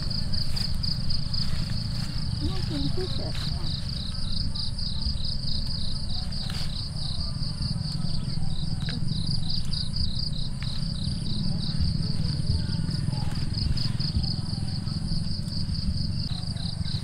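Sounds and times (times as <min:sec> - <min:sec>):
insect chirping: 0:00.0 - 0:17.0
steady low rumble: 0:00.0 - 0:17.0.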